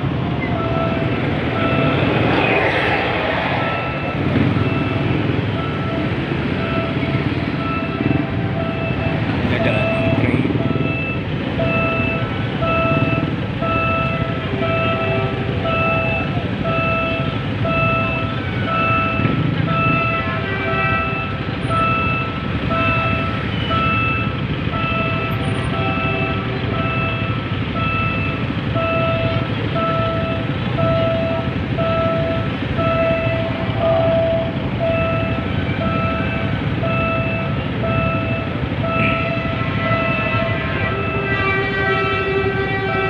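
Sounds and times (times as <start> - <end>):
engines idling: 0.0 - 43.0
electronic warning beeps: 3.6 - 20.2, 21.0 - 40.1.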